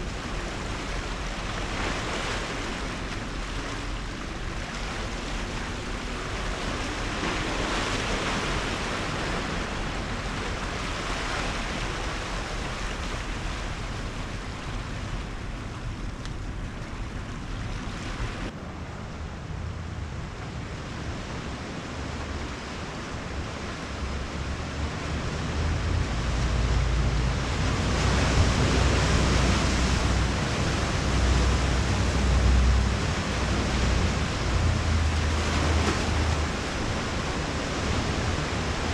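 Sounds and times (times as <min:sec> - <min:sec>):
low wind rumble: 0:00.0 - 0:38.9
ocean surf washing over rocks: 0:00.0 - 0:38.9.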